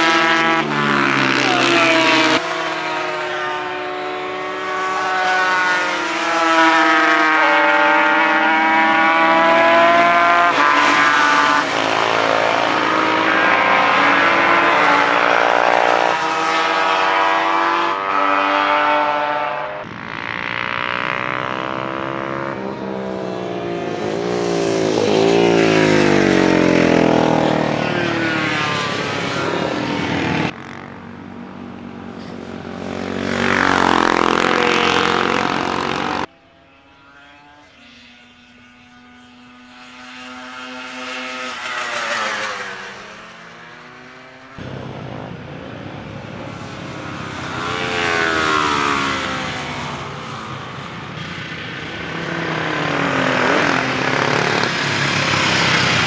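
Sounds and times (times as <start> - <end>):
racing motorcycles passing: 0.0 - 56.0.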